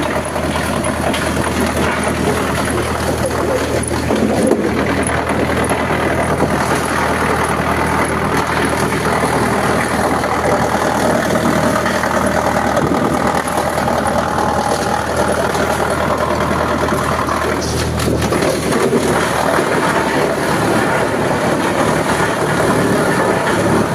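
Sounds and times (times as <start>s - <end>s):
wood cutting machine humming: 0.0s - 23.9s.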